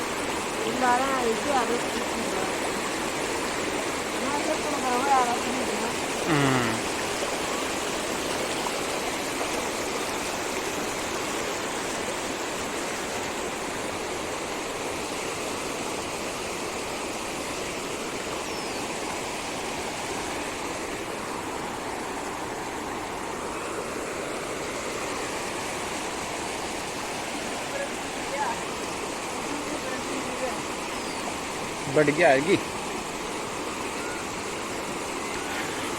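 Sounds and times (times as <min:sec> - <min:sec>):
stream rushing: 0:00.0 - 0:35.9.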